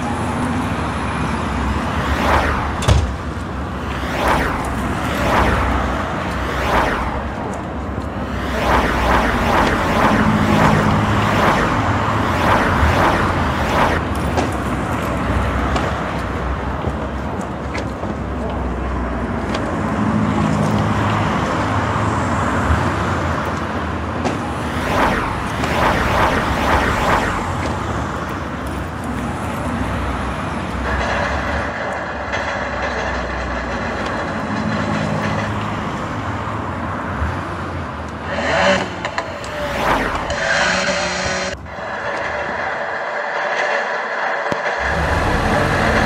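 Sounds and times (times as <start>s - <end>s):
cars driving past: 0.0s - 46.0s.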